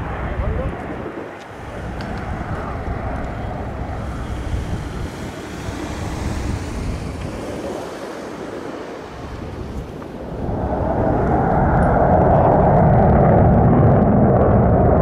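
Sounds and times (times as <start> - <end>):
distant jet noise: 0.0 - 15.0
wind on microphone: 0.0 - 15.0.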